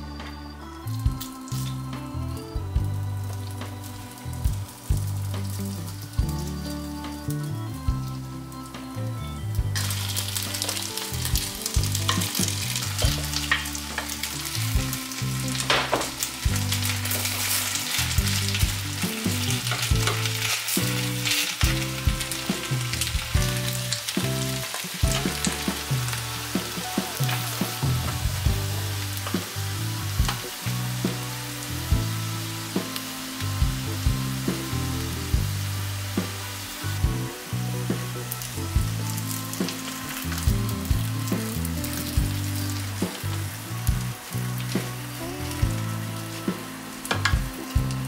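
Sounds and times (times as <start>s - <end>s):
batter sizzling in oil: 0.8s - 48.0s.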